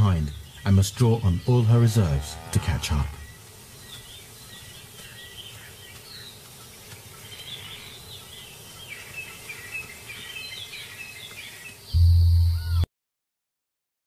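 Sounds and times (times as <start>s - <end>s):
low background hiss: 0.0s - 12.8s
small birds chirping: 0.0s - 12.9s.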